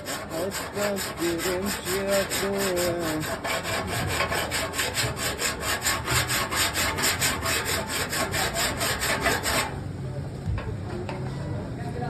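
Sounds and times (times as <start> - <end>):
sanding on car body panel: 0.0 - 9.8.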